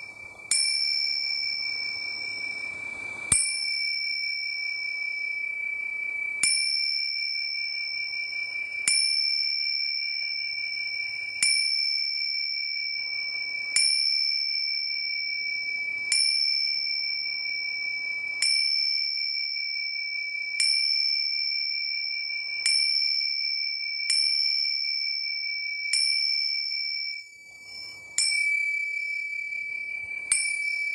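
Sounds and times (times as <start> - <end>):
small high-pitched bell ringing: 0.0 - 30.9.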